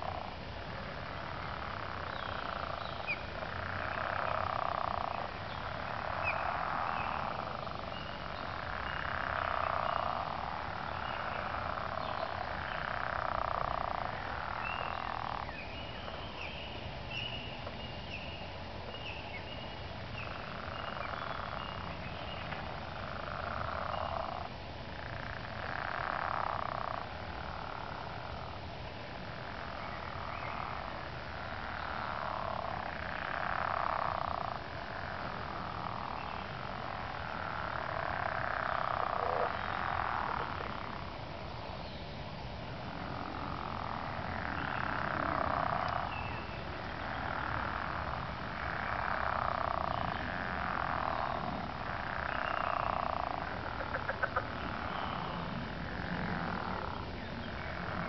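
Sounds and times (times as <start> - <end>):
frog chorus: 0.0 - 58.0.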